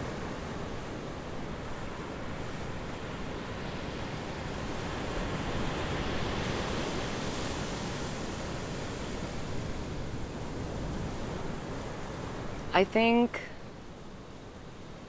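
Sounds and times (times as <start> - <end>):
ocean surf washing on beach: 0.0 - 15.0
wind: 0.0 - 15.0.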